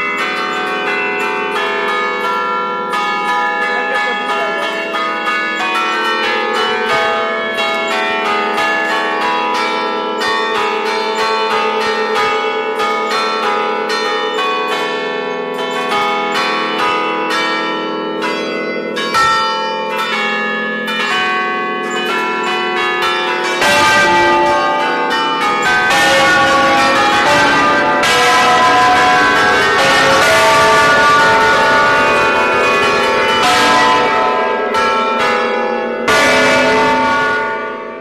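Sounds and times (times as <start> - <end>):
church bells playing a tune: 0.0 - 38.0.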